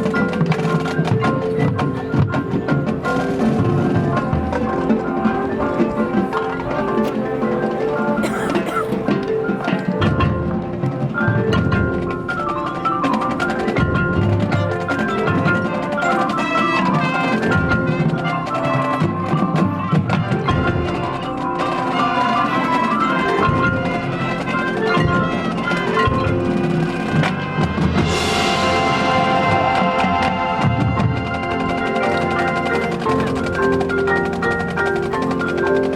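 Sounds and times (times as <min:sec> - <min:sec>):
mallet percussion: 0:00.0 - 0:35.9
marching band playing: 0:00.0 - 0:35.9.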